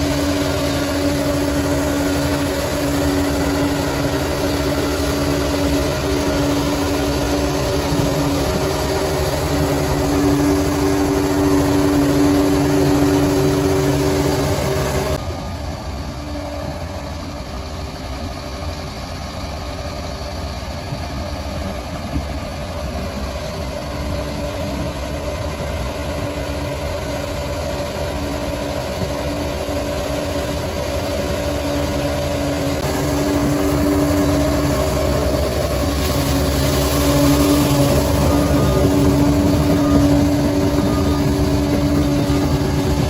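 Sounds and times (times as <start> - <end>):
bulldozer diesel engine running: 0.0 - 43.0.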